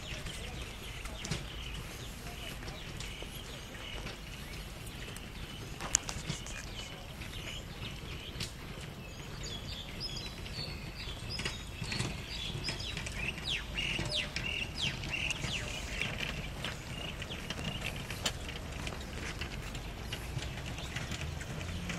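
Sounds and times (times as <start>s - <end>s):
birds chirping: 0.0s - 21.9s
hooves clip-clopping on brick: 0.0s - 21.9s
steady outdoor hiss: 0.0s - 21.9s.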